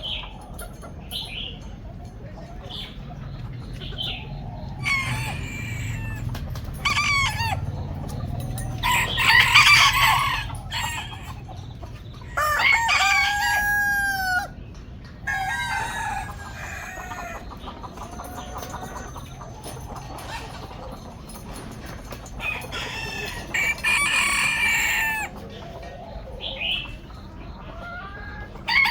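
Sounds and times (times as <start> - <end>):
hens clucking: 0.0 - 28.9
roosters crowing: 0.0 - 28.9.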